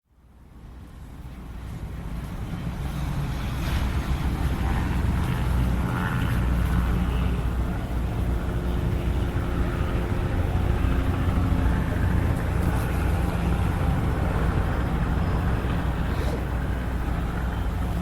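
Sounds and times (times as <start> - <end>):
helicopter running: 1.4 - 18.0.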